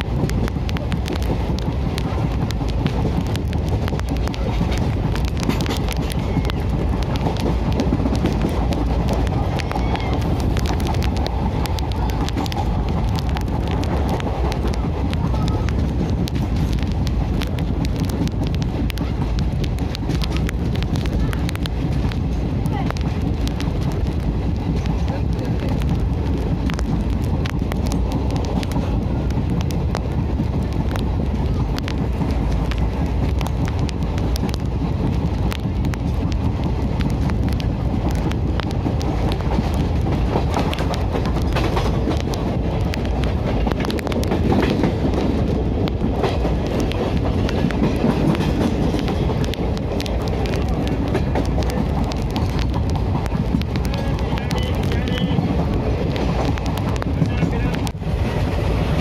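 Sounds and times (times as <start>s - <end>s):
low train rumble: 0.0s - 59.0s
wheels clattering over rail joints: 0.0s - 59.0s.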